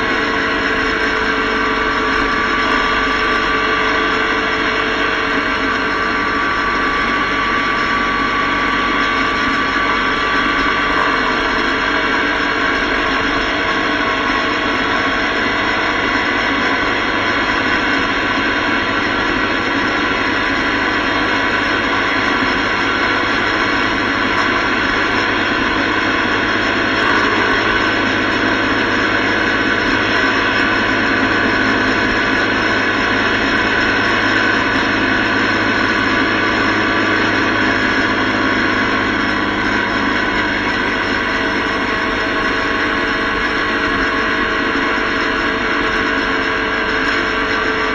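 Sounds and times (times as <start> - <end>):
motorcycle engine drone: 0.0 - 47.9.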